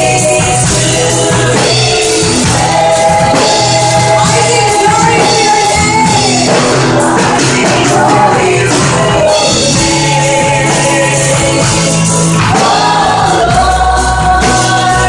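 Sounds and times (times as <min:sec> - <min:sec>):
worship song with band: 0:00.0 - 0:15.0.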